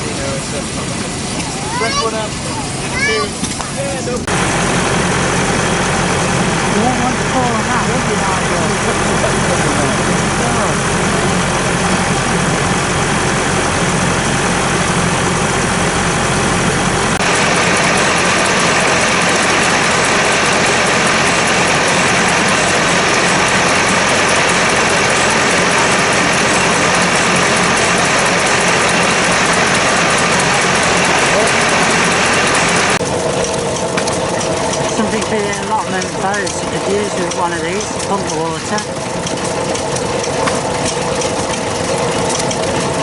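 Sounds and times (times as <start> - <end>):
stationary engines running: 0.0 - 43.0.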